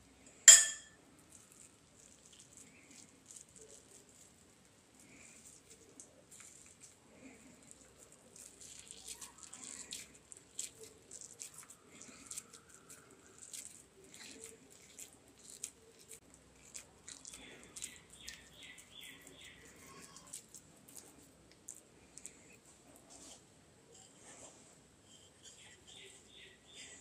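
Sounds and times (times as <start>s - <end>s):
wet squishing of bread: 1.0s - 24.0s.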